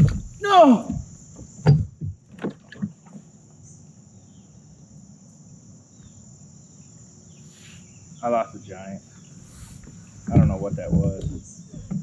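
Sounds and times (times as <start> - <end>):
faint high insect buzz: 0.0 - 2.2, 2.8 - 12.0.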